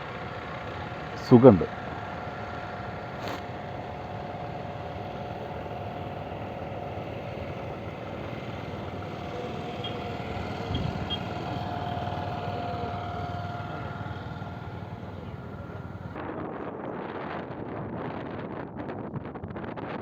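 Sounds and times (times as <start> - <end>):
boat engine humming and whining: 0.0 - 16.2.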